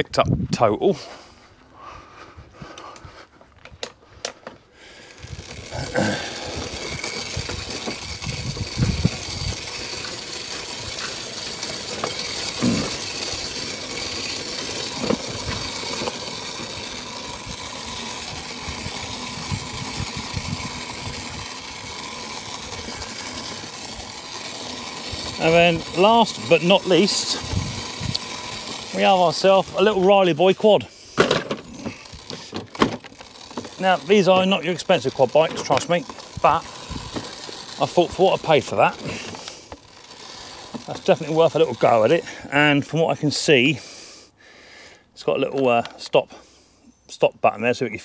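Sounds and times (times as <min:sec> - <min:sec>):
small engine running: 0:01.0 - 0:47.0.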